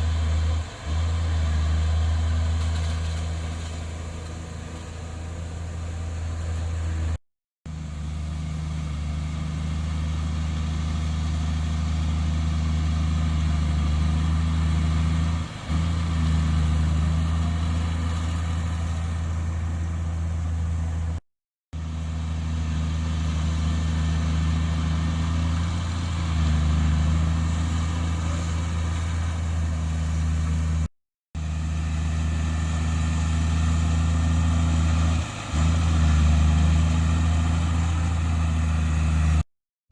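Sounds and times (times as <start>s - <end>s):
heavy diesel engine droning: 0.0s - 21.2s, 21.8s - 39.5s.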